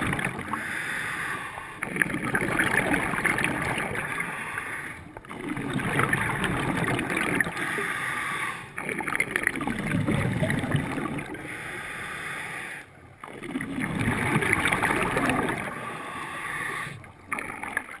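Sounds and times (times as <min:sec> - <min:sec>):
regulator bubbles gurgling underwater: 0:00.0 - 0:18.0.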